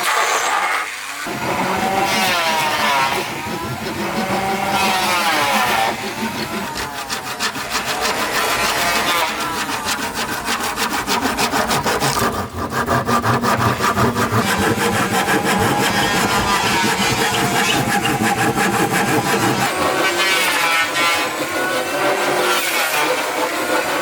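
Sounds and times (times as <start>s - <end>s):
saw cutting through wood: 0.0s - 24.0s.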